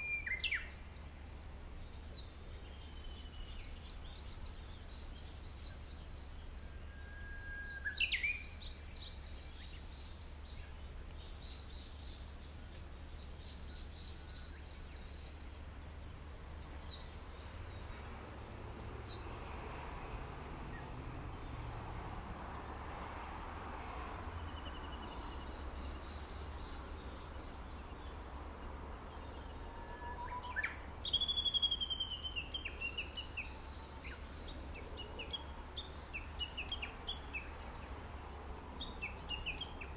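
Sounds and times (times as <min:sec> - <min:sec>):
bird chirping: 0:00.0 - 0:01.2, 0:01.8 - 0:19.4, 0:24.4 - 0:39.9
steady low background noise: 0:00.0 - 0:39.9.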